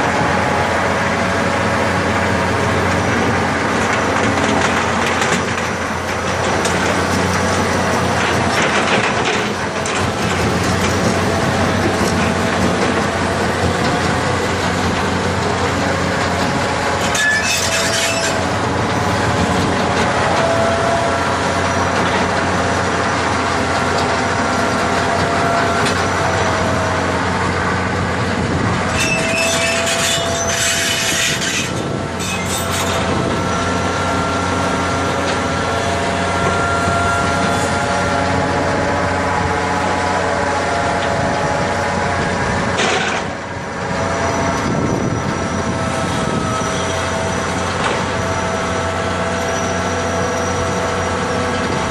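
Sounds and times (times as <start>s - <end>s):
digger engine running: 0.0s - 51.9s
whining tones: 4.8s - 51.9s.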